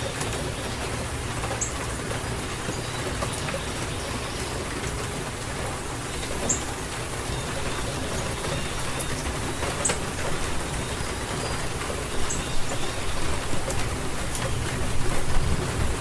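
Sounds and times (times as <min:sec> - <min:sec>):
heavy rain pouring: 0:00.0 - 0:16.0
sharp raindrops: 0:00.0 - 0:16.0.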